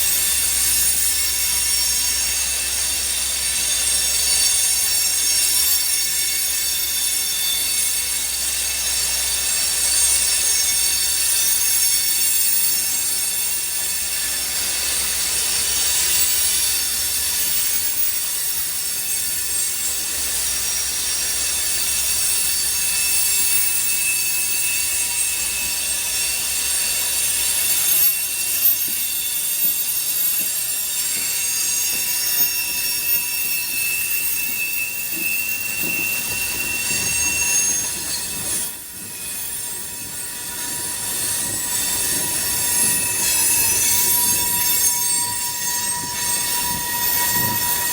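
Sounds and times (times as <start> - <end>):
steel wheels squealing on rails: 0.0 - 47.9.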